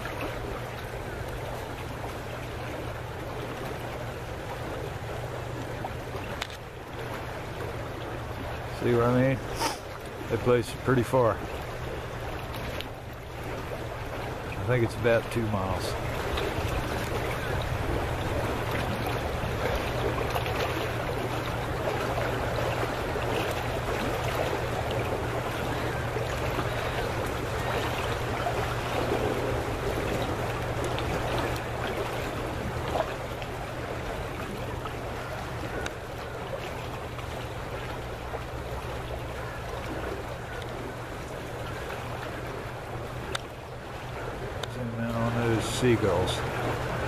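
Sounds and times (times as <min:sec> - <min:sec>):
water lapping at a pier: 0:00.0 - 0:47.0.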